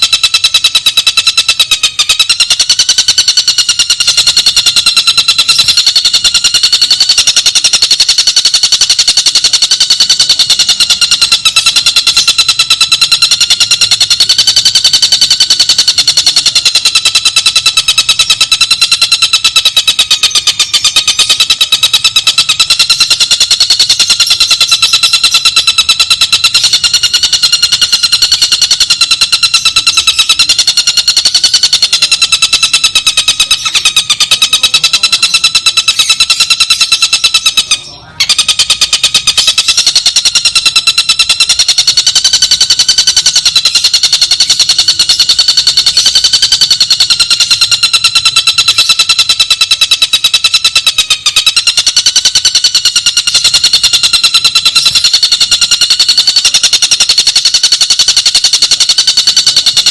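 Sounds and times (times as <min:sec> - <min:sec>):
bird trilling: 0:00.0 - 0:51.6.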